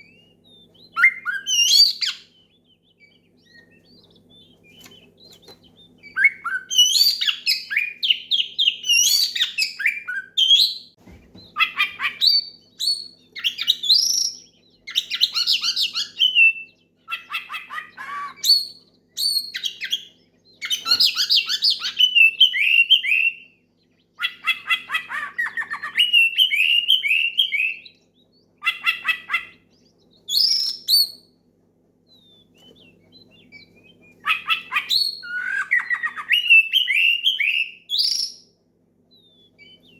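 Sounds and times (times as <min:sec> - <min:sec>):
bird singing whistles and trills: 0:00.0 - 0:31.4, 0:32.0 - 0:39.9
faint steady hum: 0:00.0 - 0:39.9.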